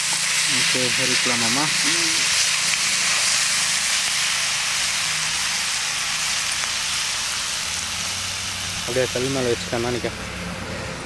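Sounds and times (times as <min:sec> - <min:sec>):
vegetables sizzling in oil: 0:00.0 - 0:10.4.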